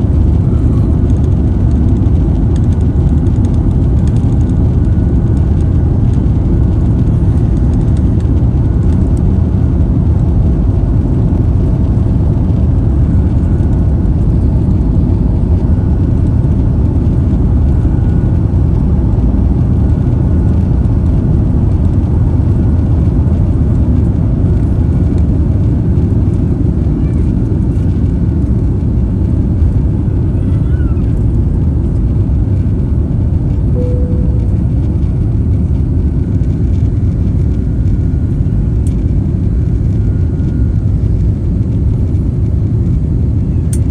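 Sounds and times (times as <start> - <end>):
faint steady whine: 0.0 - 43.9.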